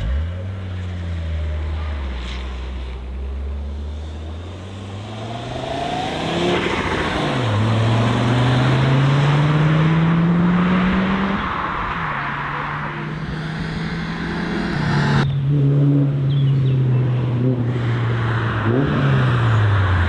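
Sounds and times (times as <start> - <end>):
car engine accelerating hard: 3.3 - 20.0.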